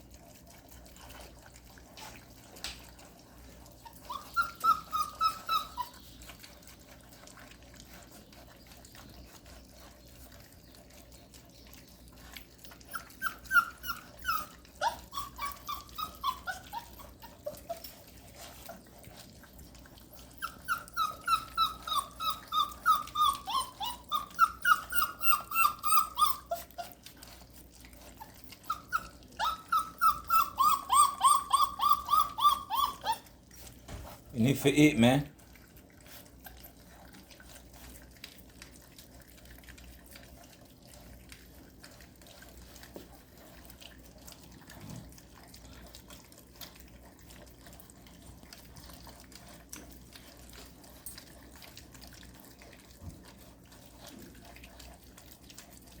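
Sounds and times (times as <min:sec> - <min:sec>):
puppies whining and yelping: 0:00.0 - 0:34.3, 0:35.4 - 0:56.0.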